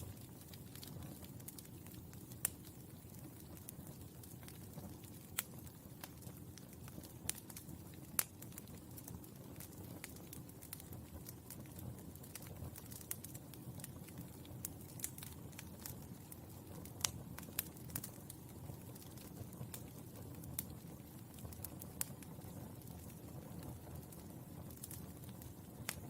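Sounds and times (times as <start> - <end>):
charcoal crackling and popping: 0.0 - 26.0.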